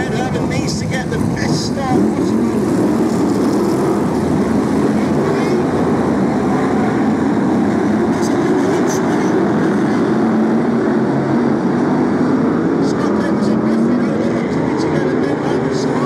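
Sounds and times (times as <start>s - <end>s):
many race car engines at full throttle: 0.0s - 16.0s.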